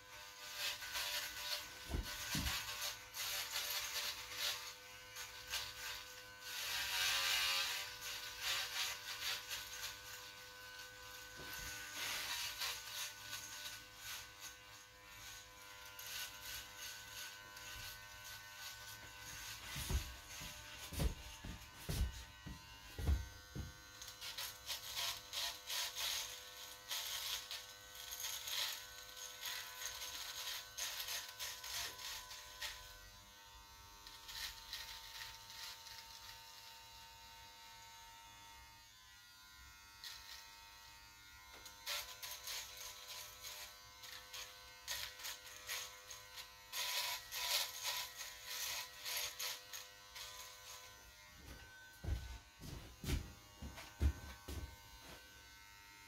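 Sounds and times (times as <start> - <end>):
hair trimmer buzzing: 0.0 - 56.0
trimmer blade rasping hair: 0.0 - 56.0.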